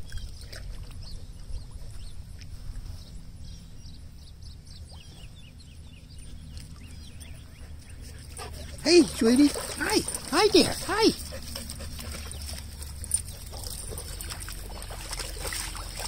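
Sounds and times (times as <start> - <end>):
birds chirping: 2.9 - 16.0.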